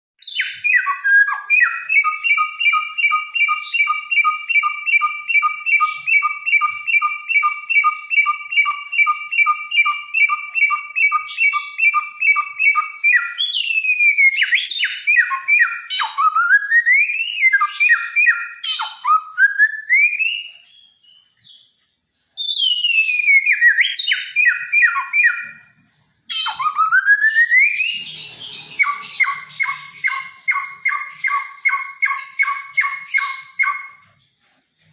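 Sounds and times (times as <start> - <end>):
songbird whistling and chirping: 0.2 - 34.9.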